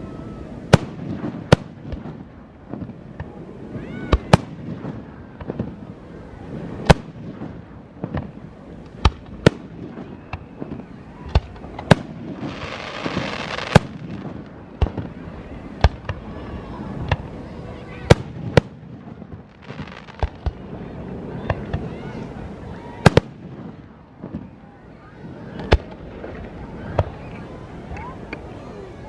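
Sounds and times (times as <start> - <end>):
firework crackling: 0.0 - 29.0
firework bangs: 0.4 - 27.8.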